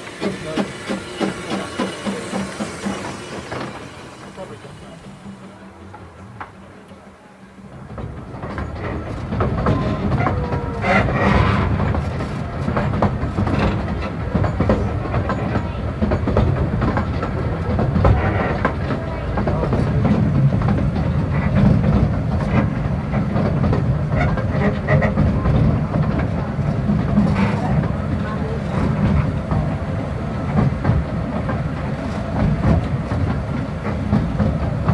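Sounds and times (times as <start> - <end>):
train wheels rumbling on track: 0.0 - 34.9
wheels clacking over rail joints: 0.0 - 34.9.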